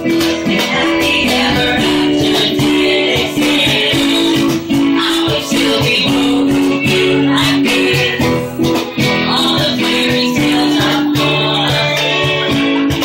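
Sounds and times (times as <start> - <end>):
acoustic guitar strumming: 0.0 - 13.0
person singing: 0.0 - 13.0.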